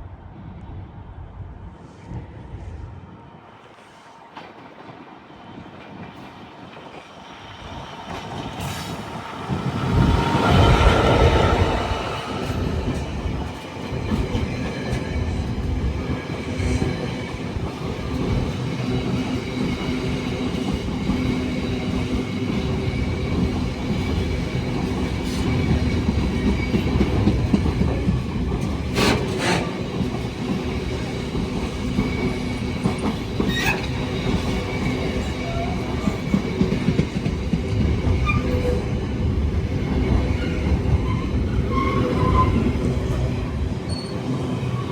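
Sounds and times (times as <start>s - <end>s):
train rumbling past: 0.0s - 44.9s
train wheels on rails: 1.7s - 44.9s.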